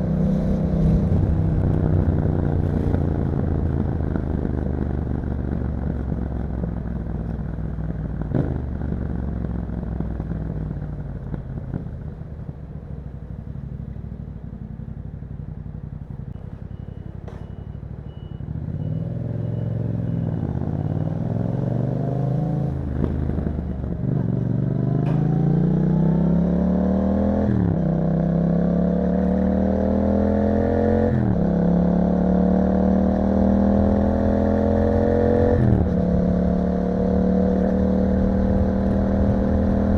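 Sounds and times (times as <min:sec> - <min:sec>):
motorcycle engine accelerating: 0:00.0 - 0:12.6, 0:18.5 - 0:39.9.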